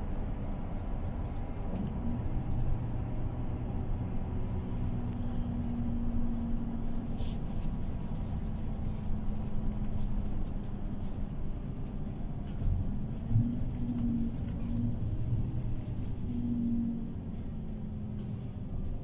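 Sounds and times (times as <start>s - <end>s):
bus diesel engine drone: 0.0s - 19.0s
interior clicks and rattles: 0.6s - 16.9s.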